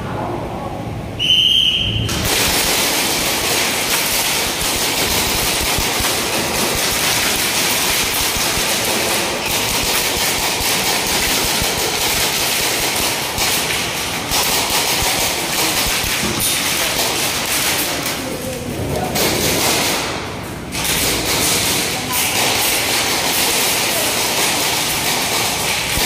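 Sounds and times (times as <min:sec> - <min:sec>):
rapid airsoft gunfire: 0:02.1 - 0:18.3, 0:19.2 - 0:26.0.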